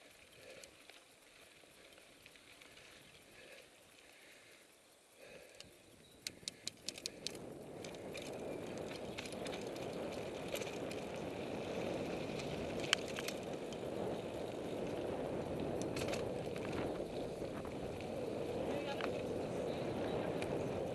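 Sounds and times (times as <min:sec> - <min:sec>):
bike clicks and rattles: 0:00.0 - 0:20.9
bike tyres rolling on dirt: 0:00.0 - 0:20.9.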